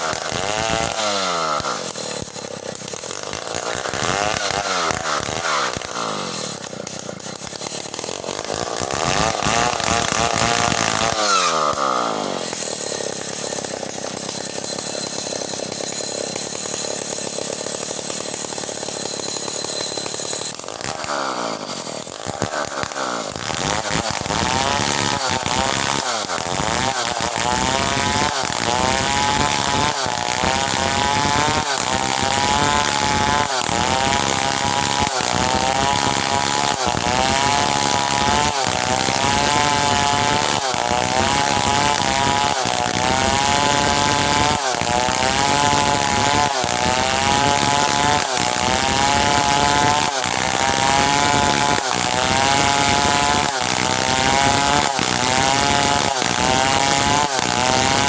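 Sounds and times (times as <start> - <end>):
chainsaw sawing hardwood: 0.0 - 58.0.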